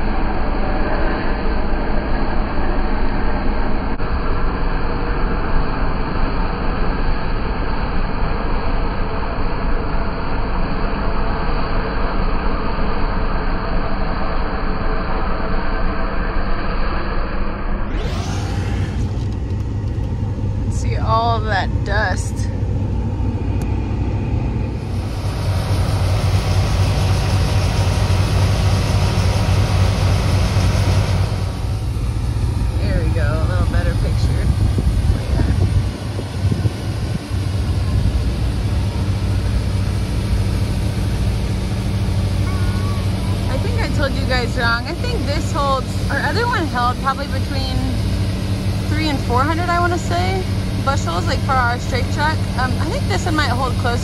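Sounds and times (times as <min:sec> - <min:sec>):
combine harvester droning: 0:00.0 - 0:54.0
engine noise inside vehicle: 0:00.0 - 0:54.0.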